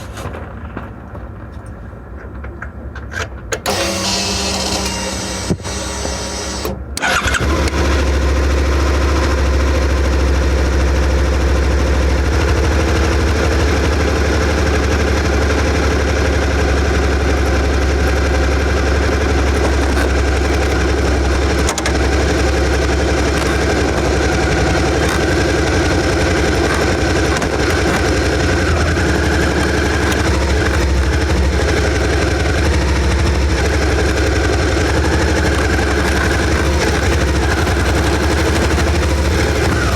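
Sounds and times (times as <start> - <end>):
motorcycle engine starting and running: 3.0 - 39.9.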